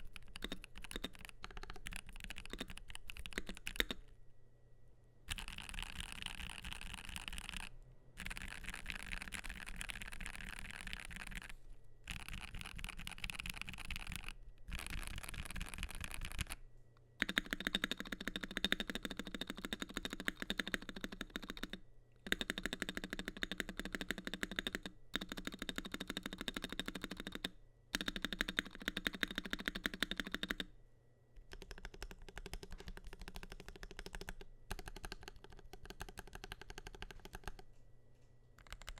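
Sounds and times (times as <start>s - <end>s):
mechanical keyboard typing: 0.0s - 4.1s, 5.3s - 16.6s, 17.2s - 30.7s, 31.4s - 37.6s, 38.6s - 38.9s.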